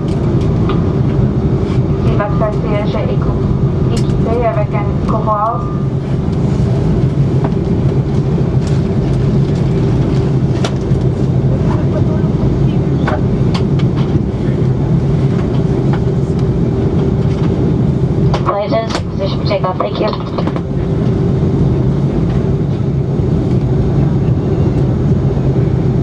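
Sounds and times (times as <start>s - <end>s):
aircraft engine and air-conditioning hum: 0.0s - 26.0s.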